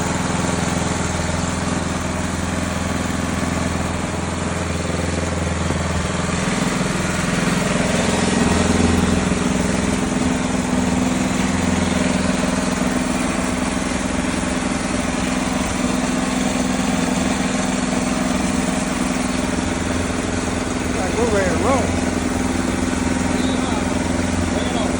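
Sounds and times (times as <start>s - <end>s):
snow blower engine running: 0.0s - 24.9s.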